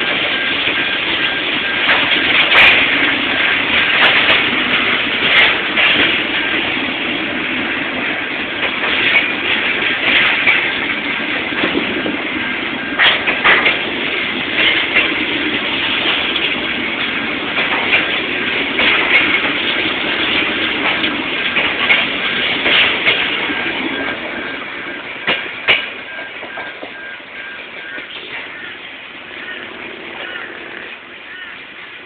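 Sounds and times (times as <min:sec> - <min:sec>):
train wheels rolling on rails: 0:00.0 - 0:32.0
wheels clacking over rail joints: 0:00.0 - 0:32.0.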